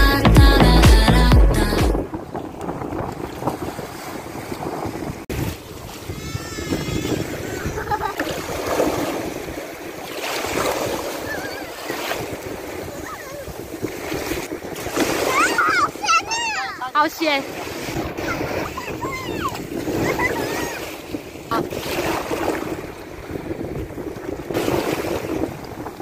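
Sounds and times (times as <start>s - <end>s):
waves washing on shore: 0.0s - 26.0s
wind buffeting microphone: 0.4s - 26.0s.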